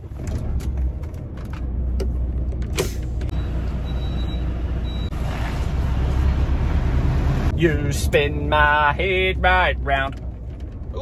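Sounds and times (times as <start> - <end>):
diesel lorry engine rumbling: 0.0 - 11.0.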